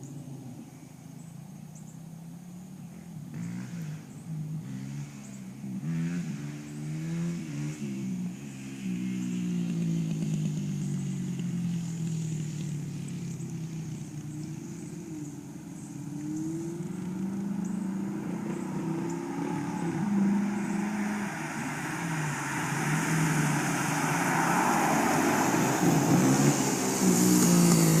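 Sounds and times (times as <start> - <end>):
car engine revving through exhaust: 3.2 - 28.0.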